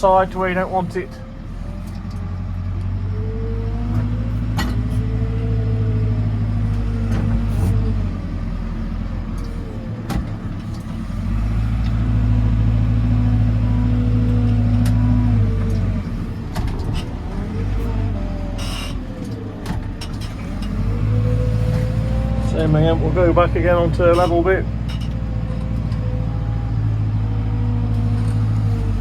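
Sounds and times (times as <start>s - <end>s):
diesel engine under load: 0.0s - 29.0s
hydraulic whine: 3.0s - 29.0s.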